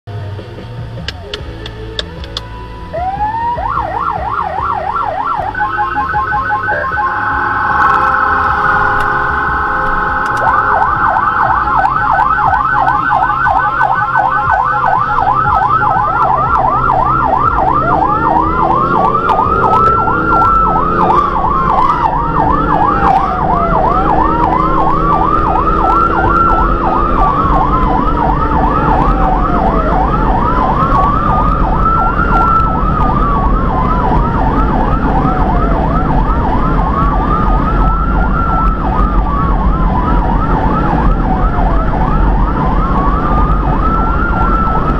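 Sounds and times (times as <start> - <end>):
engine and road noise: 0.0 - 44.9
siren wail rising and falling: 2.4 - 44.9
siren yelp: 2.9 - 44.9.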